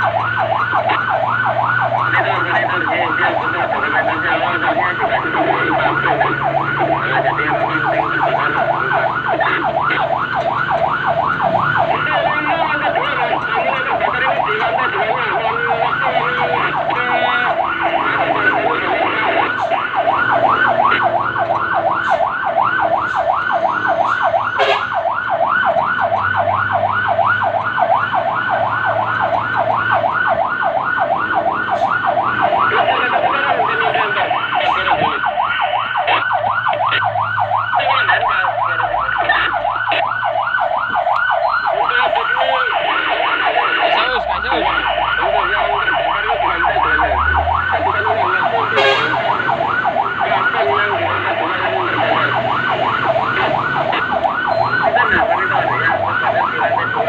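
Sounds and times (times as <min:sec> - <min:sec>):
fire truck siren yelping: 0:00.0 - 0:57.0
truck engine humming: 0:00.0 - 0:57.0.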